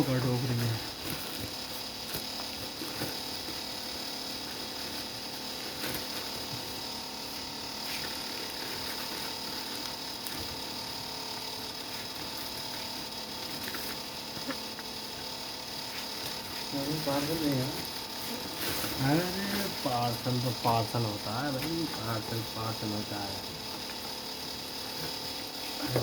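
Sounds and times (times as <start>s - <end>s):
small geared motor running: 0.0s - 26.0s.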